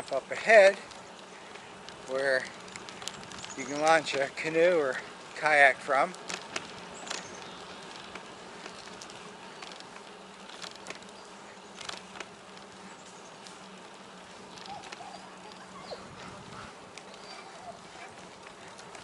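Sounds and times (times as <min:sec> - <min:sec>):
faint rattling clicks: 0:00.0 - 0:16.0
bicycle rolling on pavement: 0:00.0 - 0:19.0.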